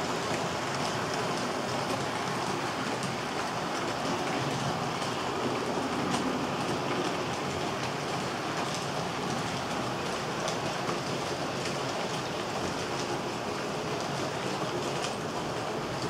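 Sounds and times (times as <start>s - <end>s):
model train wheels rushing on rails: 0.0s - 16.0s
clicks from rail joints: 0.2s - 16.0s.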